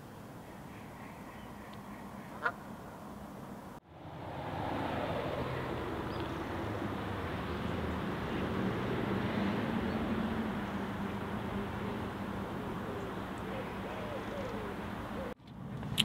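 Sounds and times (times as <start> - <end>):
distant engine rumble: 1.7 - 16.0.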